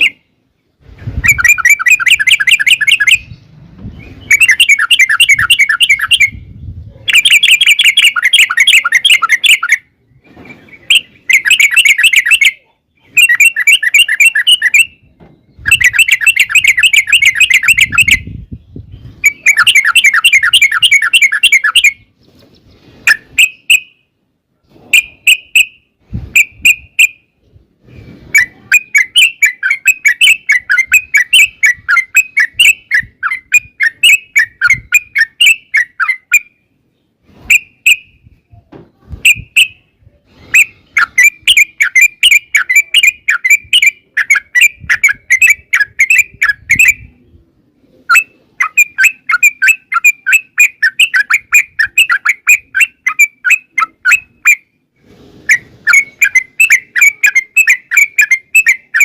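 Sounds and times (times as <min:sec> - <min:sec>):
bird singing bubbly chatter: 0:00.0 - 0:24.1, 0:28.3 - 0:38.2, 0:40.6 - 0:47.4, 0:48.1 - 0:54.8, 0:55.5 - 0:59.0.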